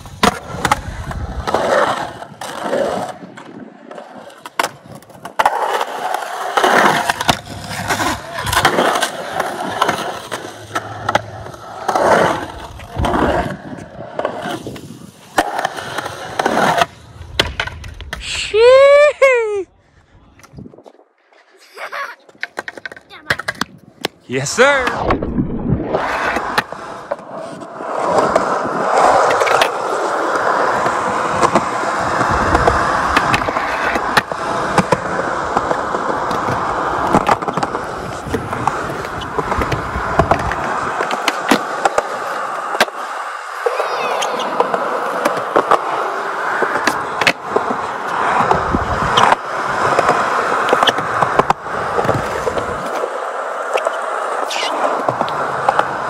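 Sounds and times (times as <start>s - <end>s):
skateboard wheels rolling on concrete: 0.0s - 56.0s
skateboard clacking: 3.8s - 18.2s, 22.0s - 24.2s, 26.0s - 56.0s.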